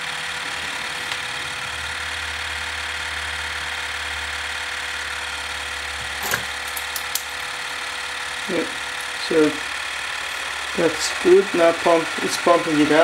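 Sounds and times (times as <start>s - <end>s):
electric pump humming and buzzing: 0.0s - 13.0s.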